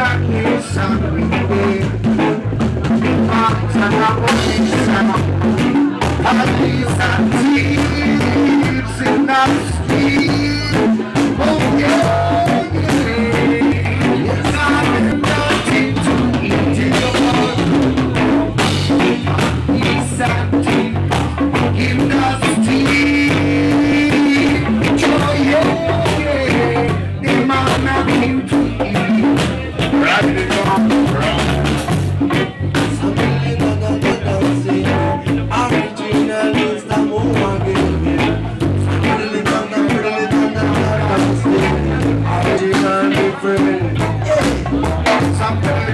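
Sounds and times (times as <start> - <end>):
live rock band playing: 0.0 - 45.9
man singing into microphone: 0.0 - 45.9.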